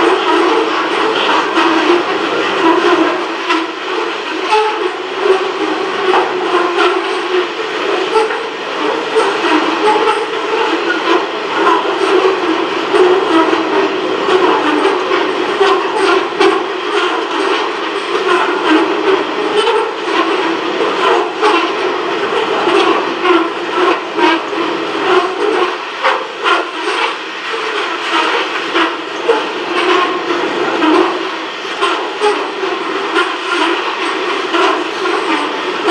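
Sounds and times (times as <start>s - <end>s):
freight train wagons rolling: 0.0s - 35.9s.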